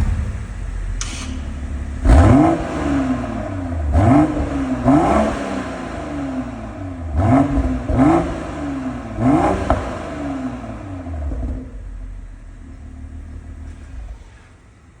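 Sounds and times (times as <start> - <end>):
exhaust pop: 0.0 - 6.0, 6.6 - 14.7
car engine idling: 0.0 - 15.0
car engine revving: 0.0 - 15.0.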